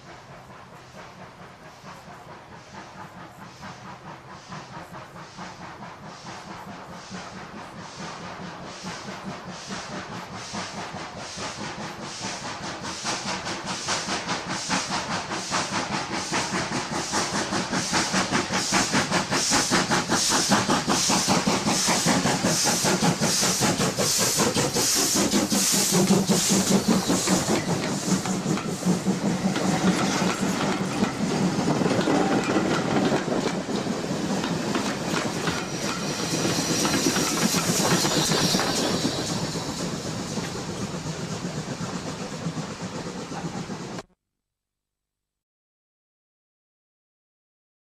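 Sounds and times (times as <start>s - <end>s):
hiss of steam: 0.0s - 44.0s
steam locomotive exhaust beating: 0.0s - 44.1s.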